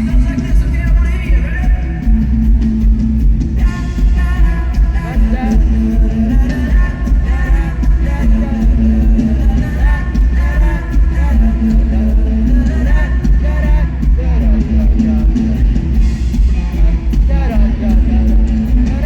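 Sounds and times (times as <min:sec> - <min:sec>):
lead vocal singing: 0:00.0 - 0:19.0
live pop-rock band: 0:00.0 - 0:19.0.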